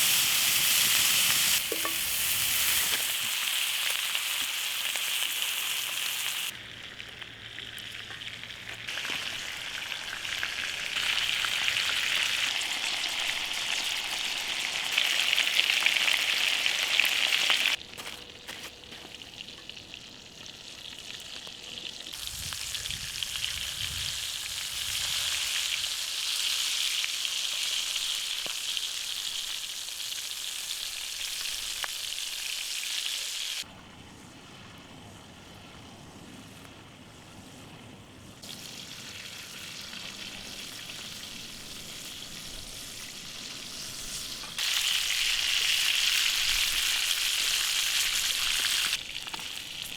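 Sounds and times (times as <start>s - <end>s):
steak sizzling over a fire: 0.0s - 33.7s, 38.4s - 49.9s.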